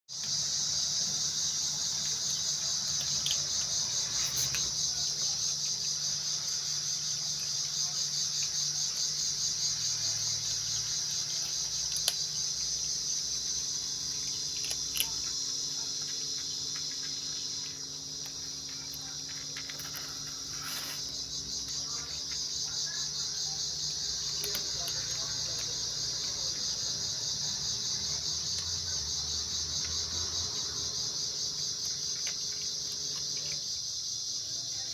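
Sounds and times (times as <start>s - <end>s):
high-pitched insect chorus: 0.1s - 34.9s.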